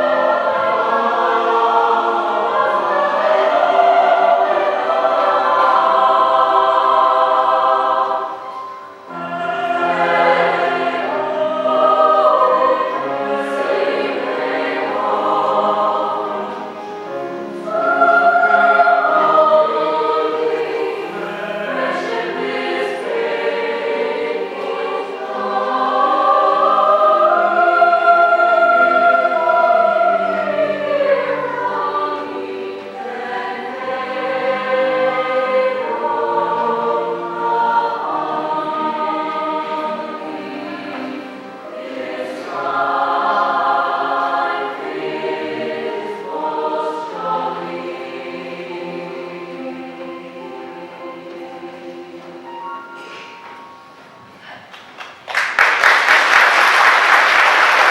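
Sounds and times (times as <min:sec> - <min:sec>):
chamber choir singing: 0:00.0 - 0:54.7, 0:55.6 - 0:57.9.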